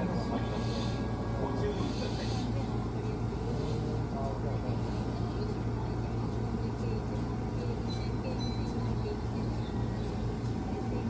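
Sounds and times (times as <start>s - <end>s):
electric train humming: 0.0s - 11.0s
faint voices: 0.0s - 11.0s.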